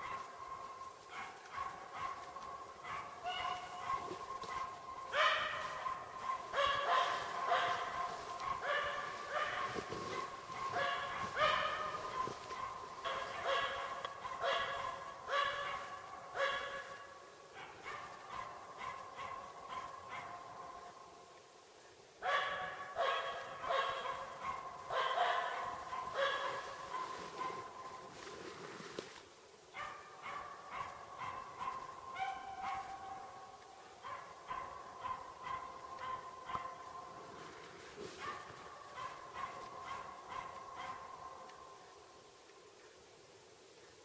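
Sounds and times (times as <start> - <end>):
dog barking: 0.0 - 21.0, 22.2 - 28.4, 29.7 - 41.8.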